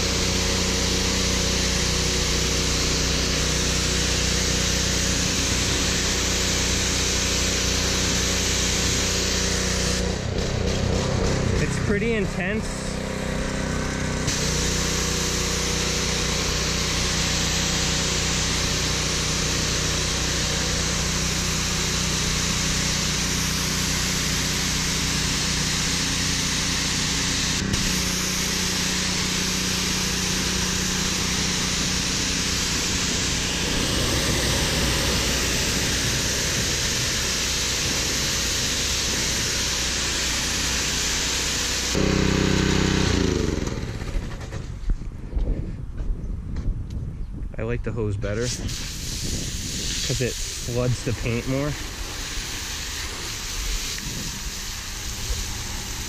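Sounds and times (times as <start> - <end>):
water jet spraying: 0.0 - 43.8, 48.5 - 56.0
pressure washer engine running: 0.0 - 44.7, 48.5 - 56.0.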